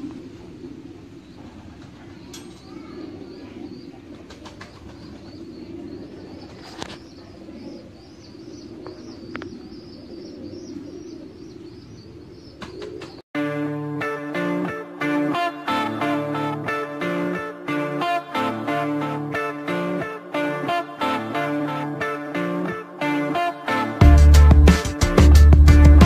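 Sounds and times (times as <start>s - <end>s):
pigeons cooing: 0.0s - 13.2s, 14.6s - 24.2s.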